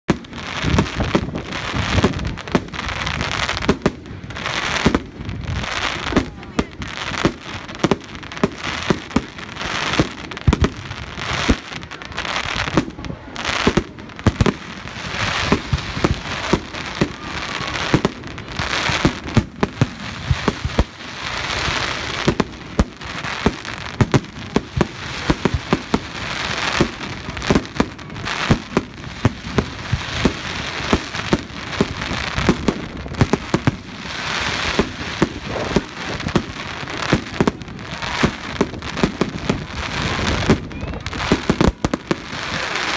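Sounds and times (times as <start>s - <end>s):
crackling fireworks stars: 0.1s - 42.9s.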